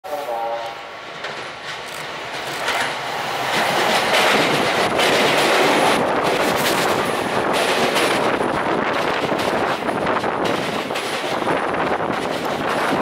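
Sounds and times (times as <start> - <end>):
electric train passing: 0.1 - 13.0
wheels clicking over rail joints: 1.2 - 13.0.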